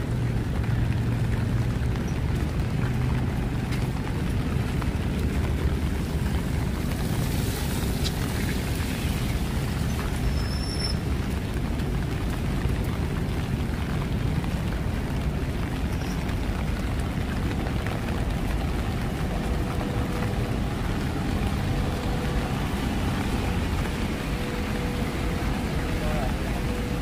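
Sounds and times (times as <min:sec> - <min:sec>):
low traffic rumble: 0:00.0 - 0:27.0
rain falling on street: 0:00.0 - 0:27.0.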